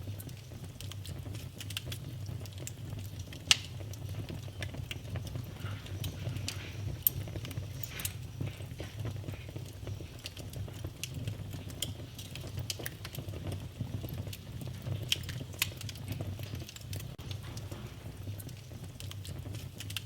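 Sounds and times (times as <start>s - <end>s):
fire crackles and pops: 0.0s - 20.0s
fire flames rumbling: 0.0s - 20.0s
loud fire snaps: 0.0s - 20.0s.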